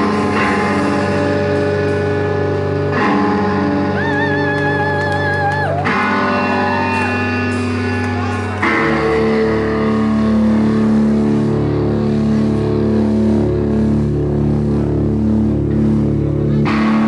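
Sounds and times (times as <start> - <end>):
distorted electric guitar rock: 0.0 - 17.0.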